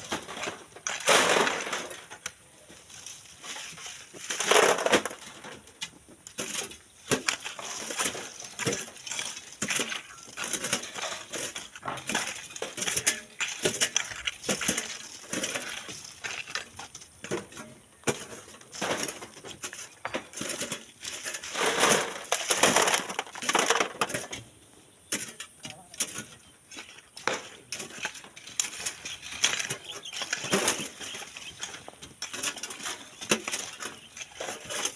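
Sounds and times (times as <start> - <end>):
gravel and stones crunching: 0.0 - 34.9.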